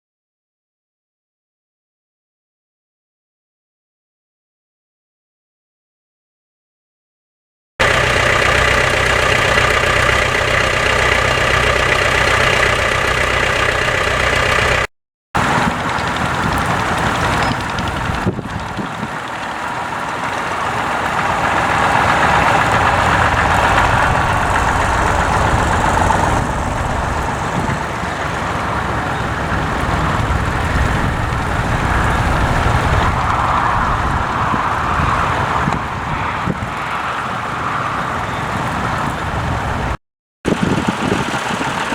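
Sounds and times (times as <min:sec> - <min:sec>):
tractor engine running: 0:07.8 - 0:41.9.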